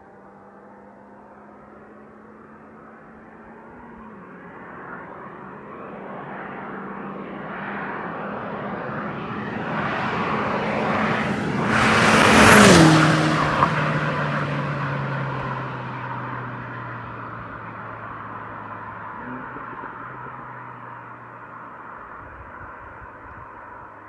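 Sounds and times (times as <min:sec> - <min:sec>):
car driving past: 0:01.7 - 0:23.9.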